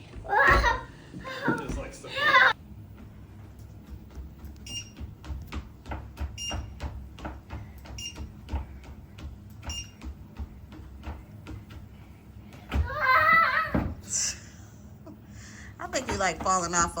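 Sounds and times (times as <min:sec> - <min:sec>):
child's footfalls on treadmill: 0:00.0 - 0:14.5, 0:15.6 - 0:17.0
treadmill motor hum: 0:00.0 - 0:17.0.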